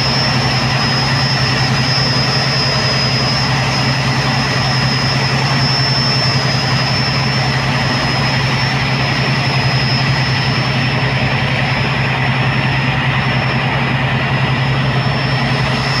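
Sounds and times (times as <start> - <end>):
diesel engine droning: 0.0 - 16.0
thin high whine: 0.0 - 16.0.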